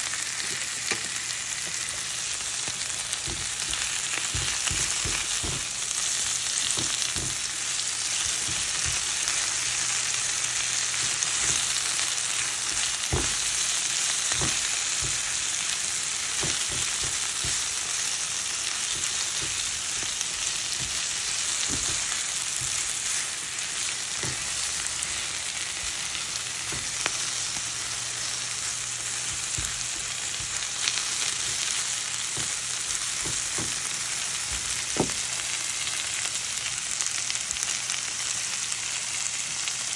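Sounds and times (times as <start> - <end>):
vegetables sizzling in frying pan: 0.0 - 39.9.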